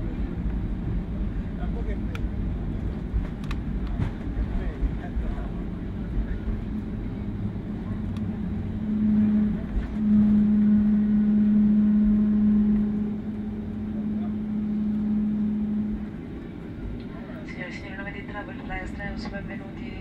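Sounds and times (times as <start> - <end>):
airplane cabin engine noise: 0.0 - 20.0
steady low hum: 0.0 - 20.0.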